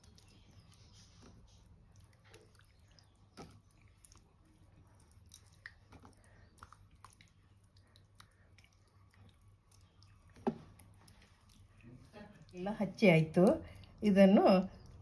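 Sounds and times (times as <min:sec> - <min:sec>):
hands squishing paste onto fish: 0:00.0 - 0:12.9
low steady hum: 0:00.0 - 0:15.0.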